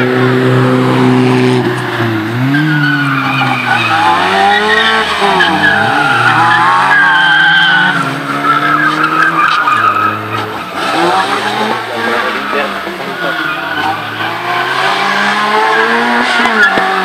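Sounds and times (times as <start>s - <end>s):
car engines revving: 0.0s - 17.0s
tyres squealing: 1.6s - 17.0s.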